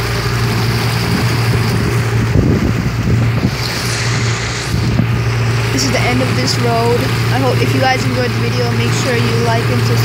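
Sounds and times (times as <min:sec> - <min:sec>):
boat engine droning: 0:00.0 - 0:10.0
water slapping against hull: 0:00.0 - 0:10.0
wind buffeting microphone: 0:00.4 - 0:10.0.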